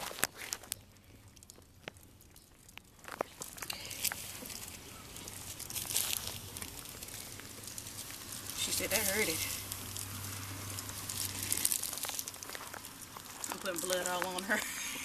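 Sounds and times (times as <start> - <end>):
crinkly rustling: 0.0 - 14.9.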